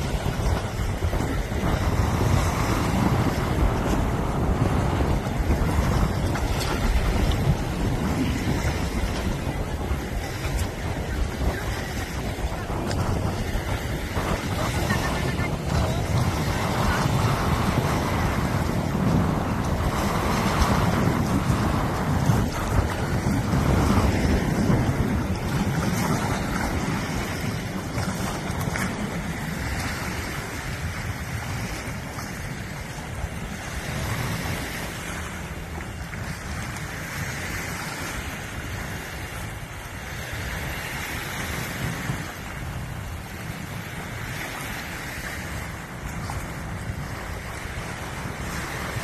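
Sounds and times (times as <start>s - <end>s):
small waves lapping: 0.0s - 49.0s
wind buffeting microphone: 0.0s - 49.0s.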